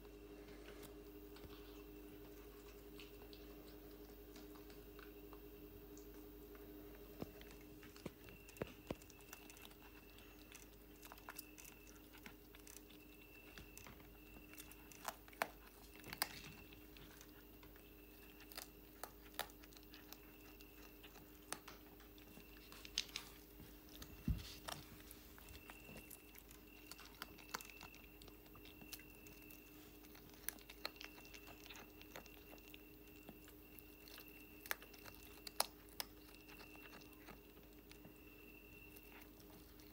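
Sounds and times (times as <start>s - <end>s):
cat chewing and crunching: 0.0s - 39.9s.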